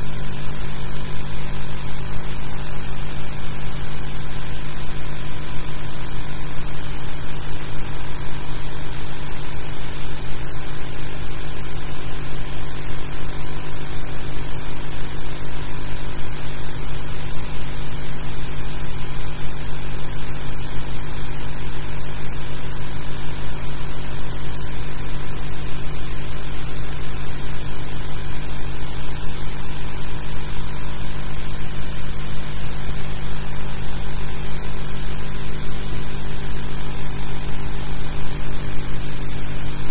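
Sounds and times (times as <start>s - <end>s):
film soundtrack hiss: 0.0s - 39.9s.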